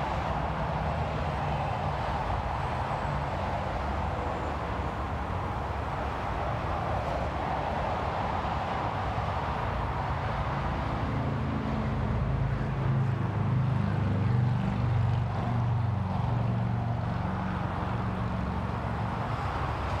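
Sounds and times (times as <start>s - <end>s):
outdoor noise: 0.0s - 20.0s.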